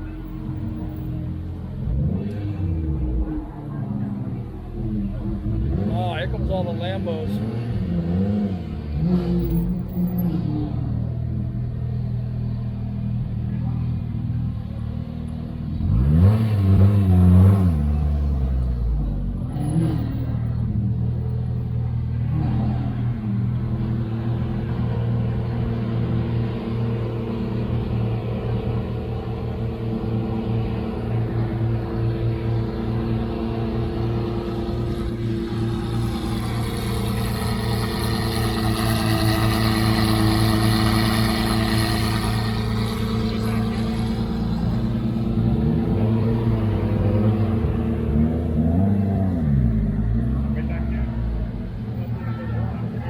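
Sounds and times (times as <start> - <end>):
low rumble of engines idling: 0.0 - 8.0, 8.6 - 15.9, 17.8 - 53.0
sports car engine revving: 0.1 - 12.6, 13.5 - 52.1.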